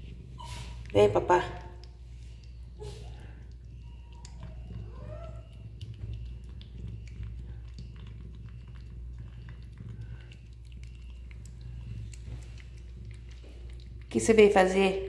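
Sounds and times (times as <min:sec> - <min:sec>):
cat chewing and licking: 0:00.0 - 0:15.0
steady low hum: 0:00.0 - 0:15.0.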